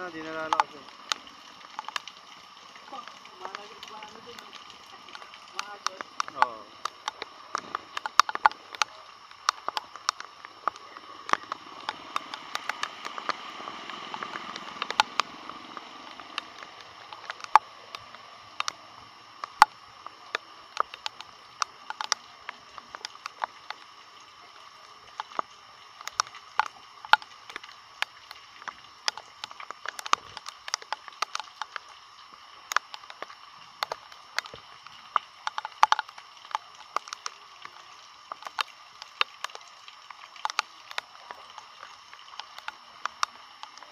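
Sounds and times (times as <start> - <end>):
raindrops tapping near microphone: 0.0 - 43.9
water sloshing from wading: 0.0 - 43.9.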